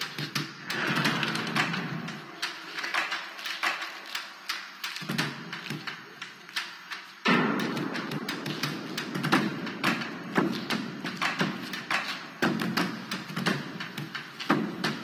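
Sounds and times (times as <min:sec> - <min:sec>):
quick tapping and knocking hits: 0:00.0 - 0:06.2, 0:06.8 - 0:15.0.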